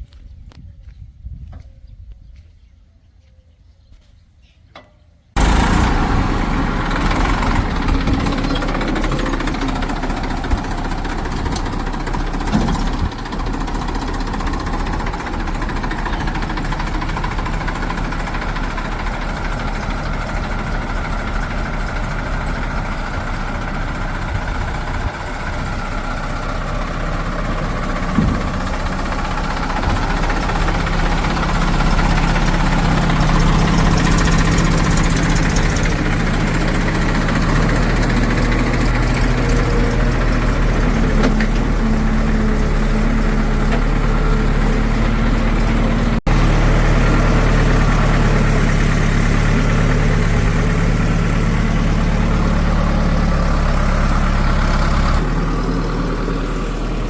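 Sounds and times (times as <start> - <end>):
diesel engine running: 5.4 - 57.0.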